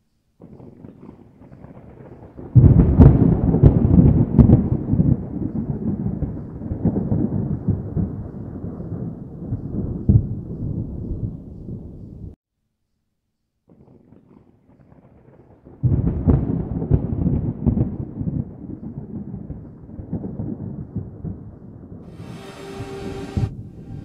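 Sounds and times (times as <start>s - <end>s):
thunderclap with rolling rumble: 0.4s - 12.4s, 14.9s - 24.0s.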